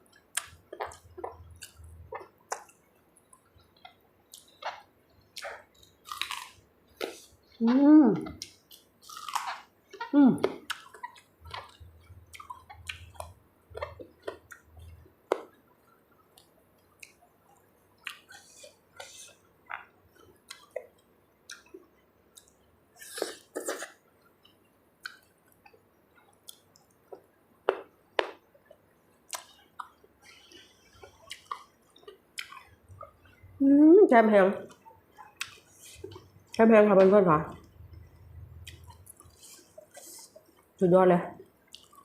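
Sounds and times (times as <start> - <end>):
wet chewing with lip smacks: 0.1 - 7.6, 8.2 - 27.8, 28.6 - 33.5, 37.6 - 40.7, 41.6 - 42.0.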